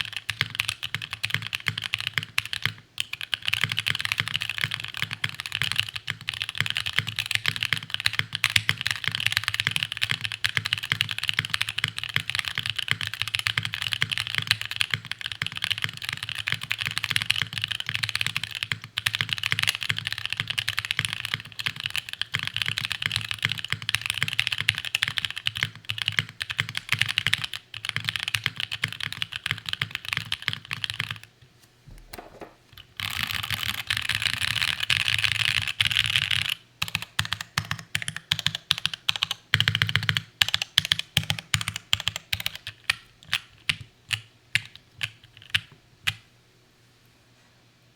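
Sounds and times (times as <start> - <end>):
mechanical keyboard typing: 0.0 - 31.3, 32.0 - 46.2.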